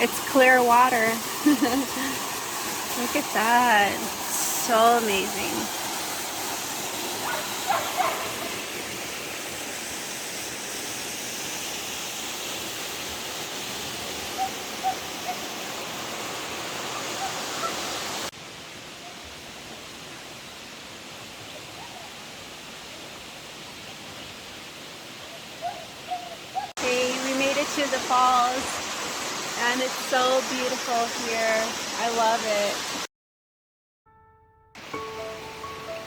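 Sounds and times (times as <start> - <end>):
rushing creek water: 0.0 - 33.1, 34.8 - 36.0.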